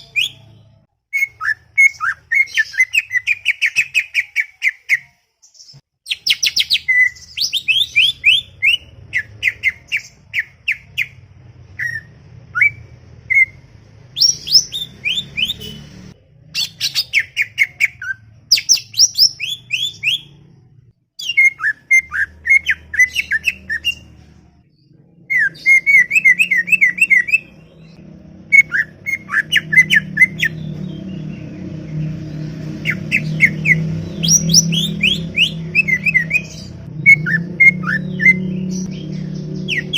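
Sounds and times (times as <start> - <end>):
bird chirping and whistling: 0.0 - 5.1, 6.1 - 13.6, 14.2 - 16.0, 16.6 - 20.4, 21.2 - 24.2, 25.2 - 39.9.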